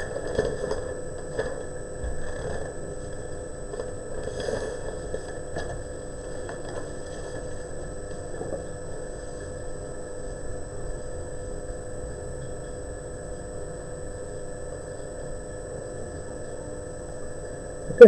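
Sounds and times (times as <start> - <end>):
electrical hum: 0.0 - 18.0
faint high whine: 0.0 - 18.0.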